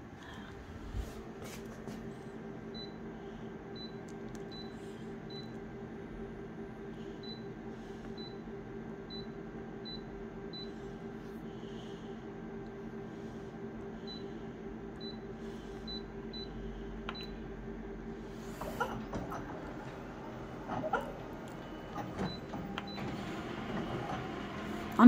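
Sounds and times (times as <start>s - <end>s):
photocopier hum: 0.0s - 25.0s.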